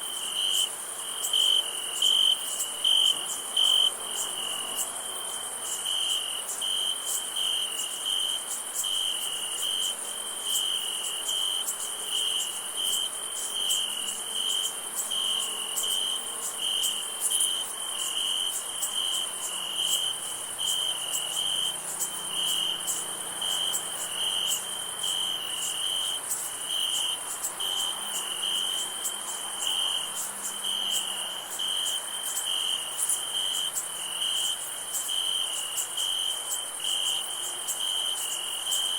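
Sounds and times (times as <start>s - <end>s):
field crickets chirping: 0.0s - 38.9s.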